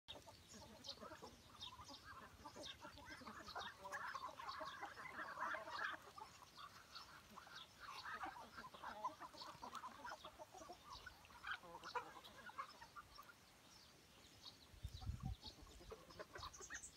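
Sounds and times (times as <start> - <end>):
ducks and chickens calling: 0.1 - 16.9.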